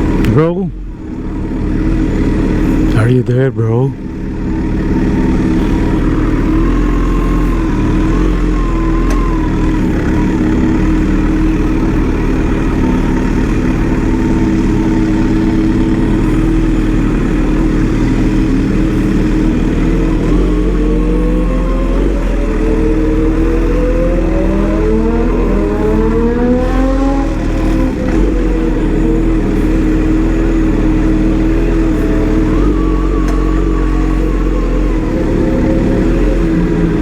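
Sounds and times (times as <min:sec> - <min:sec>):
engine running and revving: 0:00.0 - 0:37.0.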